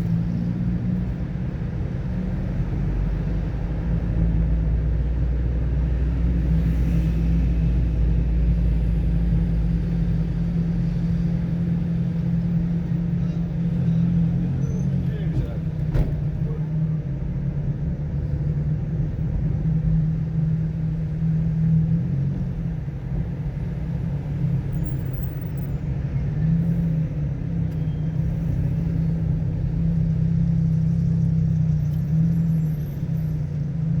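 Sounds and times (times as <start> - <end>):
tyre and road noise: 0.0 - 34.0.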